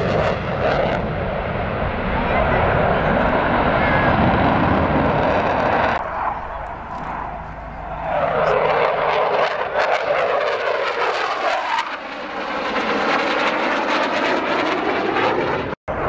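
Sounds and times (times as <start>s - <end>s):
fighter jet roaring overhead: 0.0s - 16.0s.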